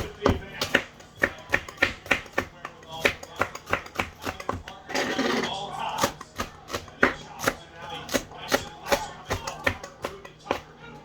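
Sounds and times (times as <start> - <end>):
knife chopping on cutting board: 0.0 - 10.7.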